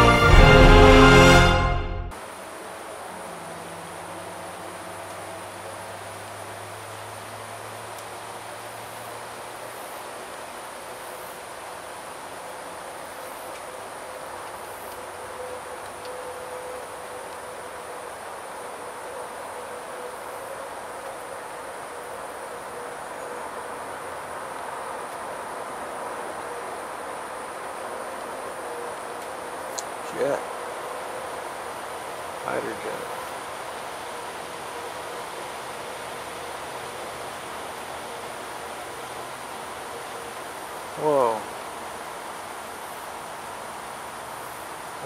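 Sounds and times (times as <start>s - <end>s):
background hiss: 0.0s - 45.0s
insect chorus drone: 2.1s - 45.0s.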